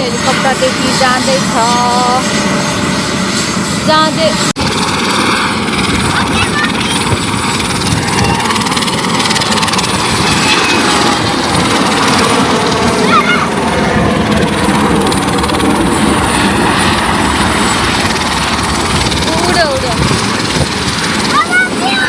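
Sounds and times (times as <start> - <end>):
helicopter rotor and engine noise: 0.0 - 22.0.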